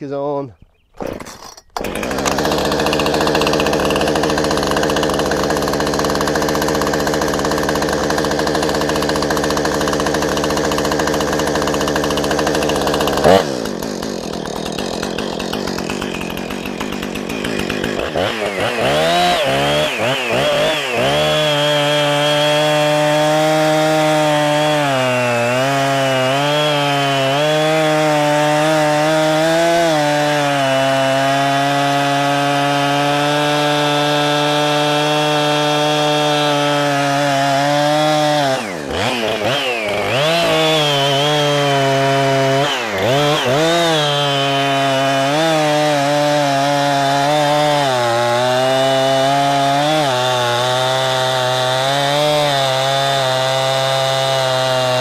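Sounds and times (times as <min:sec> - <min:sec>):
chainsaw cutting log: 0:00.9 - 0:55.0
chainsaw running: 0:01.0 - 0:55.0.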